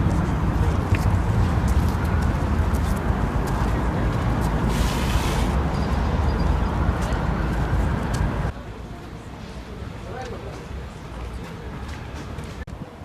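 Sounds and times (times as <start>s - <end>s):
traffic rumble: 0.0s - 13.0s
voices: 0.0s - 13.0s.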